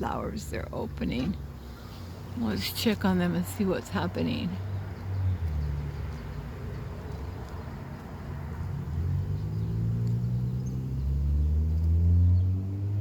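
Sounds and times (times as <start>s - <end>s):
motor vehicle engine rumble: 0.0s - 13.0s.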